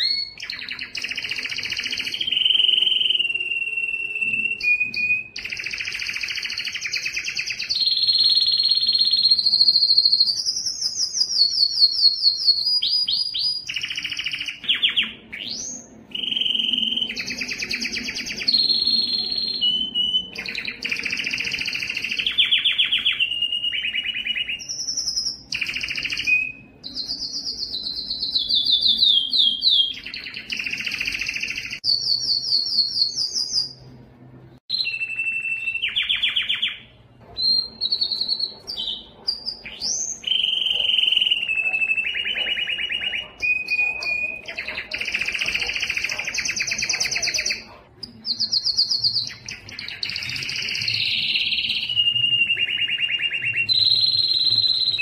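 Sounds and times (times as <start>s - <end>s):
canary singing trills: 0.0s - 34.0s, 34.6s - 55.0s.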